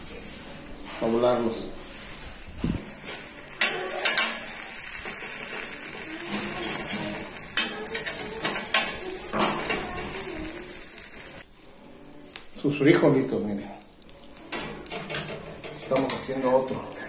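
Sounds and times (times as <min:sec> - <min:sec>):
metal spatula scraping griddle: 0:00.0 - 0:12.0, 0:14.3 - 0:17.0.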